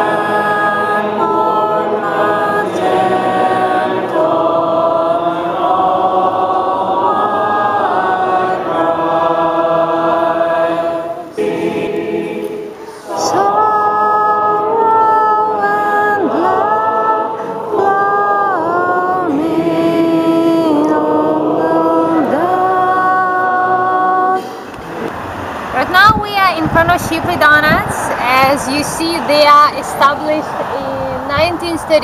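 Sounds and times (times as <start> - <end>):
congregation singing a hymn: 0.0 - 25.8.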